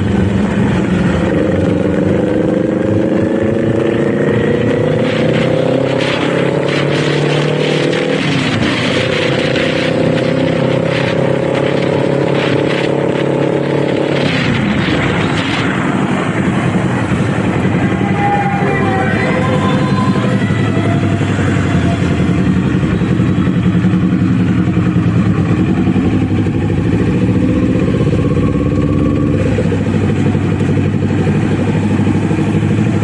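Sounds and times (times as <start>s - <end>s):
motorcycle engine under throttle: 0.0s - 33.0s
wind rush: 0.0s - 33.0s.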